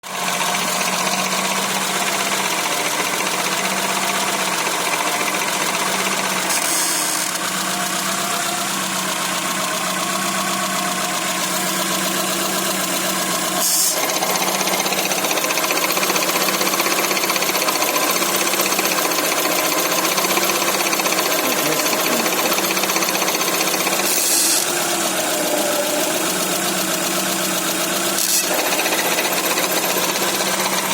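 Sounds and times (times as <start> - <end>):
car engine idling with knocking: 0.0 - 30.9.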